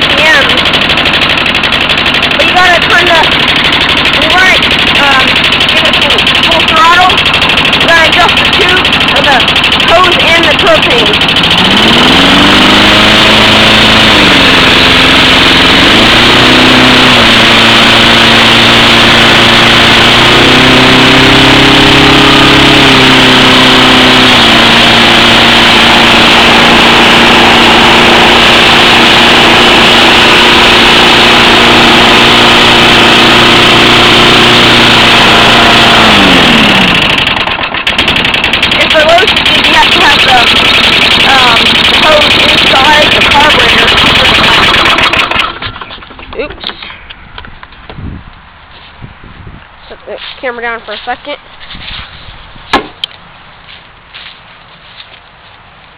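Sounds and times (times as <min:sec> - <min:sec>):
lawn mower engine running: 0:00.0 - 0:47.9.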